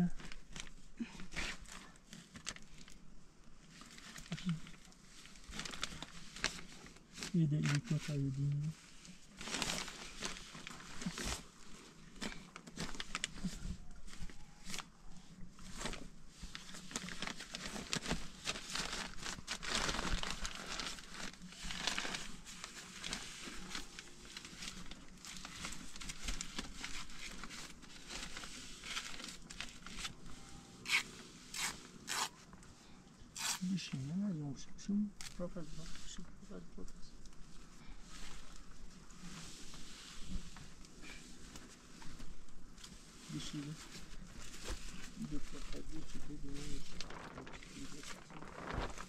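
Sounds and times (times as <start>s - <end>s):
rustling and crinkling: 0.0s - 34.4s, 35.1s - 49.0s.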